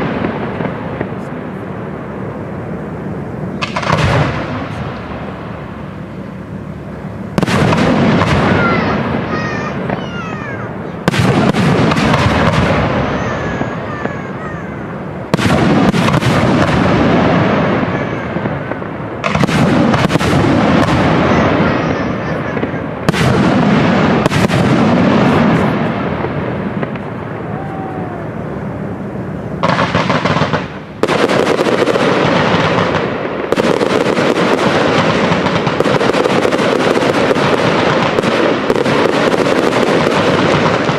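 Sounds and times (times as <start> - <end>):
firework shells bursting: 3.5 - 28.3, 29.5 - 40.9.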